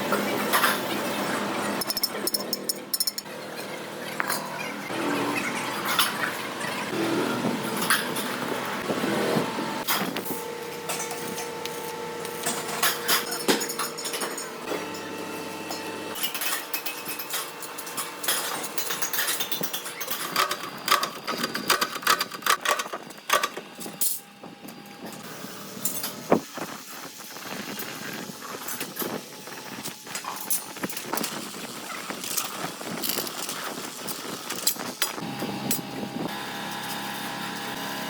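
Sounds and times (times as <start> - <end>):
steady mechanical noise: 0.0 - 38.0.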